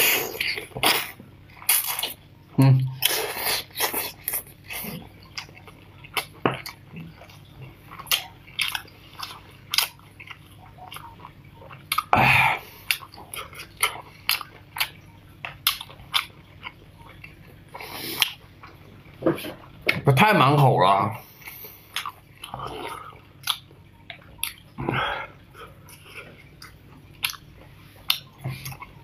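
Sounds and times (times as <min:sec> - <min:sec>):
wet chewing and smacking: 0:00.0 - 0:20.0, 0:21.3 - 0:29.0.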